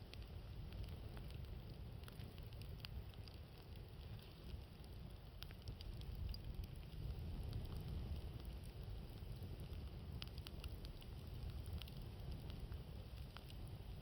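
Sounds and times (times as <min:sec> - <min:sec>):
low rumble of wind: 0:00.0 - 0:14.0
wood fire crackling and popping: 0:00.0 - 0:14.0.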